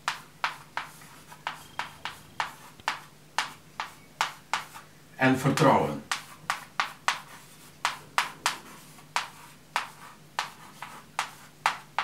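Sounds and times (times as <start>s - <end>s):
chalk writing on chalkboard: 0.0s - 12.0s.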